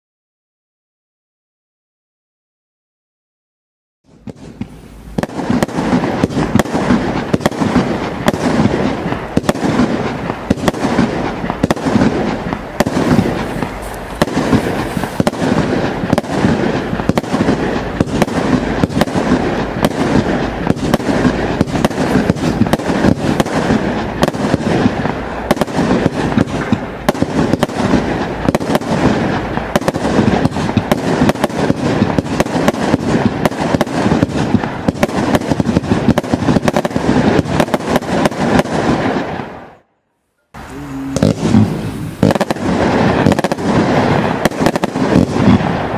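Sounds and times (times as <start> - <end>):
fireworks crackle: 4.1 - 39.8, 40.5 - 45.9
fireworks barrage: 4.1 - 45.9.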